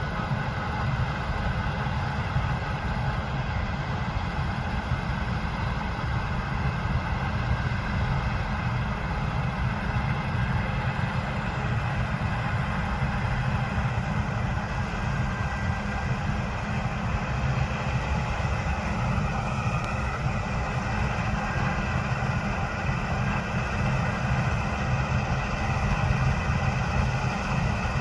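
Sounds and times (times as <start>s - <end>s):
diesel machinery running: 0.0s - 28.0s.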